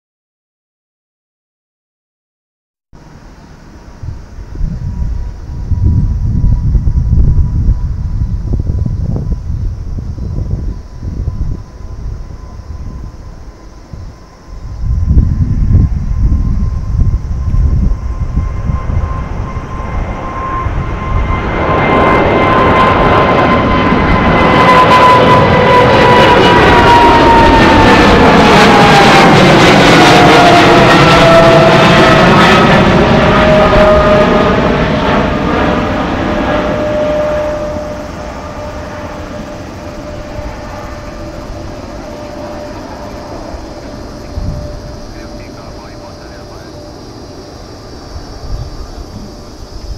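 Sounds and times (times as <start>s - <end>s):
jet engine whine: 3.0s - 49.9s
jet engines rumbling overhead: 3.0s - 49.9s.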